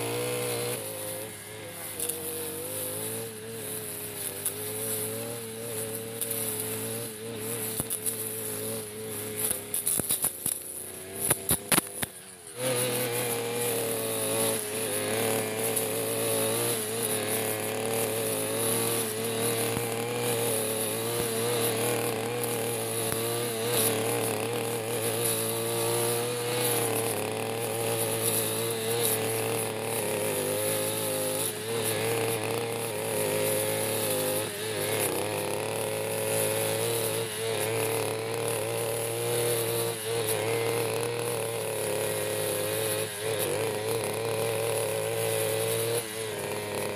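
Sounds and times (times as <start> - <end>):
brush cutter engine running: 0.0 - 46.9.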